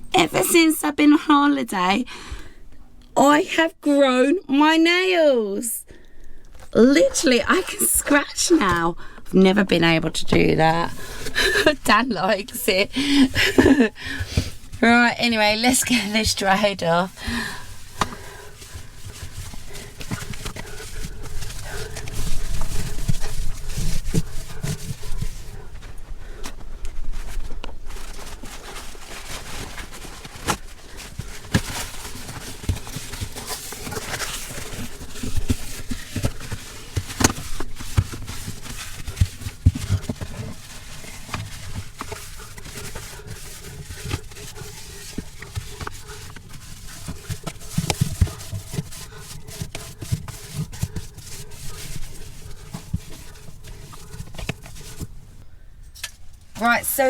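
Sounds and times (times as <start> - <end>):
rubbing plastic trays: 6.7 - 55.4.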